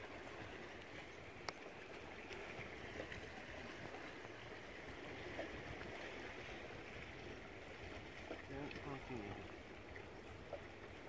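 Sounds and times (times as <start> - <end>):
water lapping against hull: 0.0 - 11.0.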